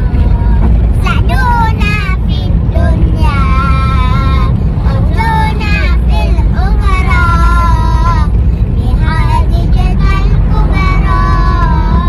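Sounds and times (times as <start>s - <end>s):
vehicle cabin rumble: 0.0s - 12.0s.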